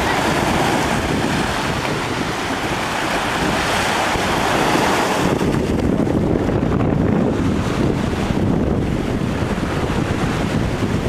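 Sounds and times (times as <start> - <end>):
sea surf washing on shore: 0.0 - 11.0
wind buffeting microphone: 0.0 - 11.0.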